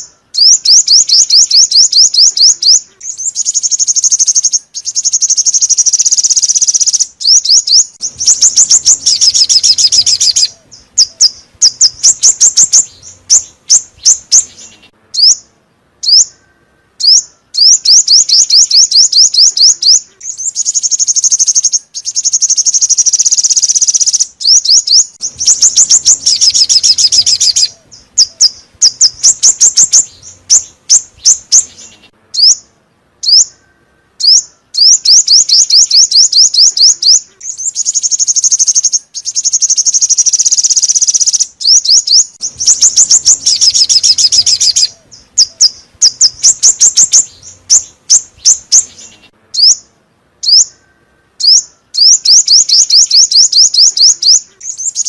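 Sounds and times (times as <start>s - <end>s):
bird chirping rapidly: 0.0s - 55.0s
bird trill: 0.0s - 55.0s.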